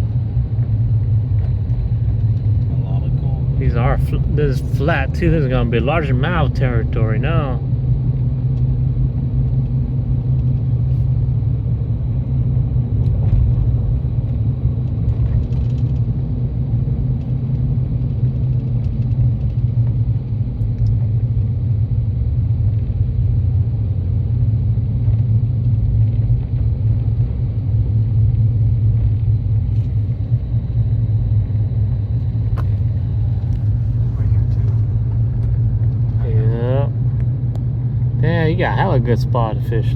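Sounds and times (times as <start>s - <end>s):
vehicle driving rumble: 0.0s - 39.9s.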